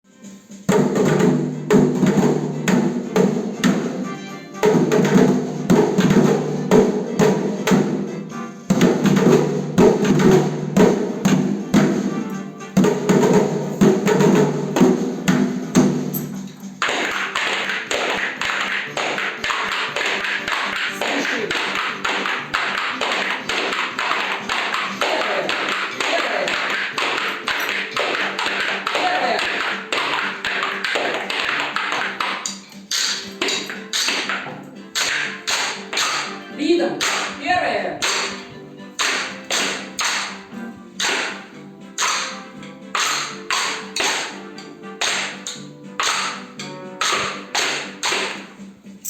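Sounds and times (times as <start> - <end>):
percussion tapping steady beat: 0.1 - 49.0.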